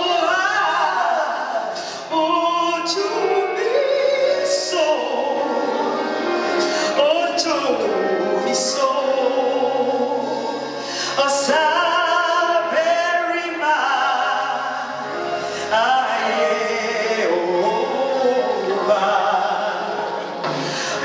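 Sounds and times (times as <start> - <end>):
gospel choir singing: 0.0 - 21.0
man singing lead: 0.0 - 21.0.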